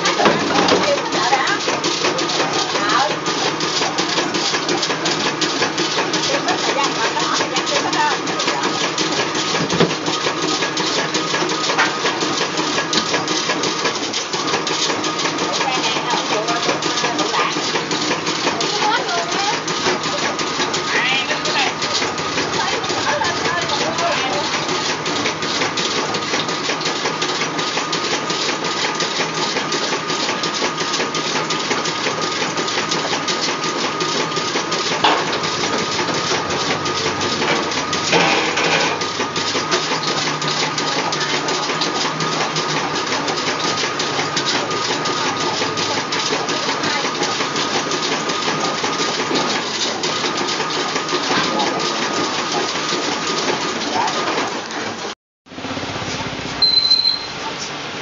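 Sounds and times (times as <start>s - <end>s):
machine clattering: 0.0s - 55.2s.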